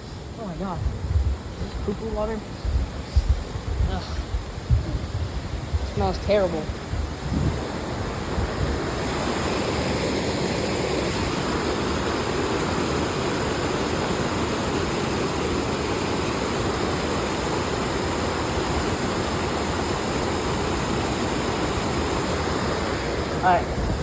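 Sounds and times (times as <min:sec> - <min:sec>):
waterfall rushing: 0:01.4 - 0:24.0.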